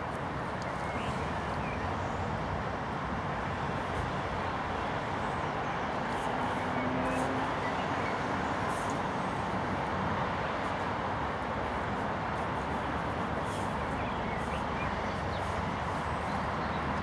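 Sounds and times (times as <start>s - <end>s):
distant road traffic: 0.0s - 17.0s.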